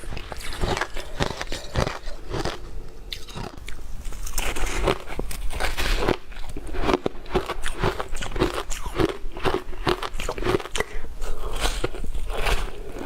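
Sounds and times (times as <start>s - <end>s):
ice crunching while chewed: 0.0s - 13.0s.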